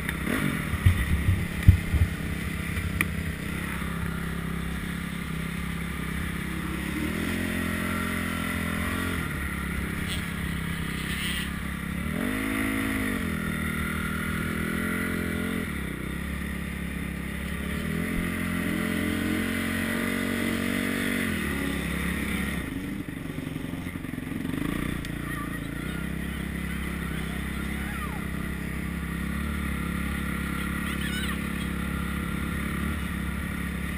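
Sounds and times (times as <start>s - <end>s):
motocross bike engine revving: 0.0s - 33.9s.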